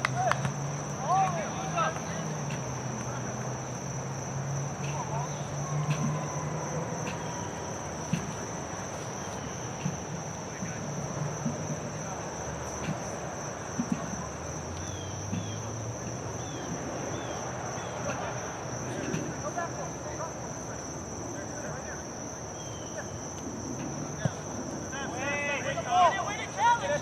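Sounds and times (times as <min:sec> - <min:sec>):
high-pitched insect trill: 0:02.7 - 0:27.0.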